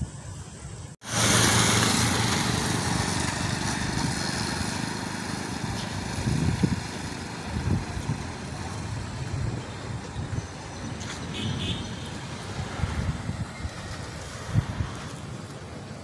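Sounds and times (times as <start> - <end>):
vehicle passing on road: 1.0 - 16.0.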